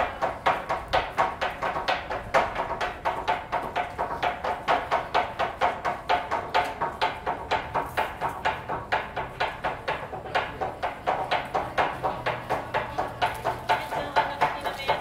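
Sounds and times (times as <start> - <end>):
knives chopping on wooden board: 0.0 - 15.0.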